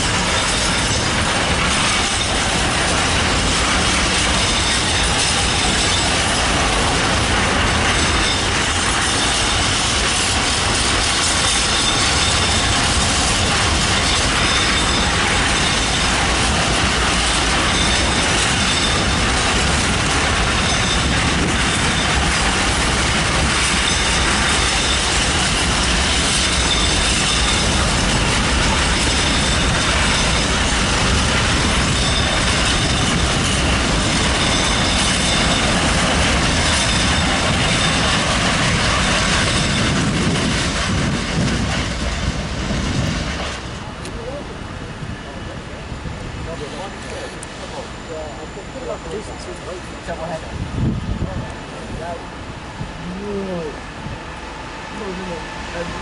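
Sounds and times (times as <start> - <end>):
train wagons clattering on rails: 0.0 - 56.0.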